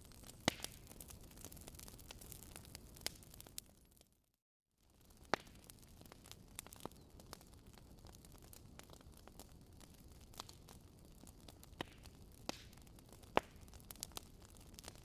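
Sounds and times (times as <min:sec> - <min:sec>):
wood fire crackling: 0:00.0 - 0:04.2, 0:04.9 - 0:15.0.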